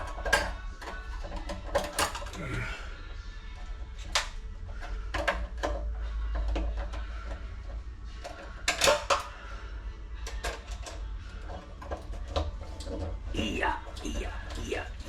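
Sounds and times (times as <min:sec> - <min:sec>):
tools and metal parts clicking: 0:00.0 - 0:02.4, 0:04.0 - 0:09.3, 0:10.2 - 0:15.0.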